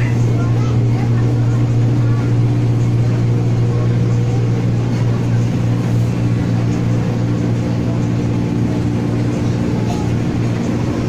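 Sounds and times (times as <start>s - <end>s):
electric train motor hum: 0.0s - 11.0s
train wheels rumbling on rails: 0.0s - 11.0s.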